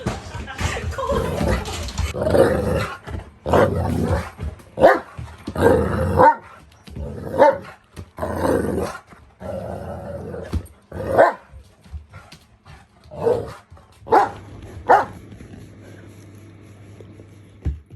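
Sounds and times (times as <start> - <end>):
dogs barking and growling: 0.0 - 17.9
dogs scuffling: 0.0 - 17.9.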